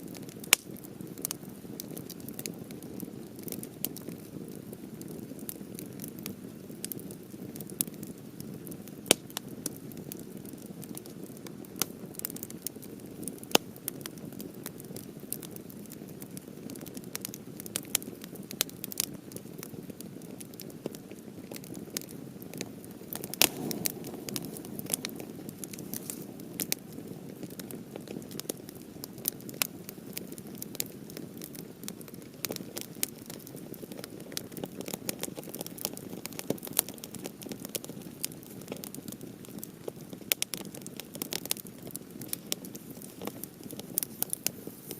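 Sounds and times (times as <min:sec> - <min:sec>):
fire popping and crackling: 0:00.0 - 0:44.9
low rush of flame: 0:00.1 - 0:44.9.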